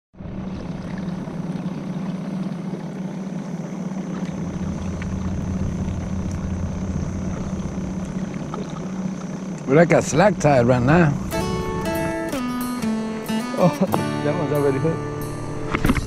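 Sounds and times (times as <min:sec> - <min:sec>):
small boat motor humming: 0:00.1 - 0:16.0.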